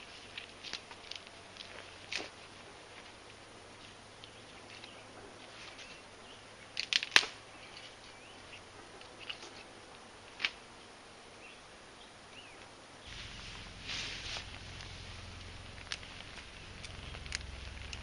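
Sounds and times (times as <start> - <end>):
twigs snapping: 0.0 - 10.6, 12.6 - 18.0.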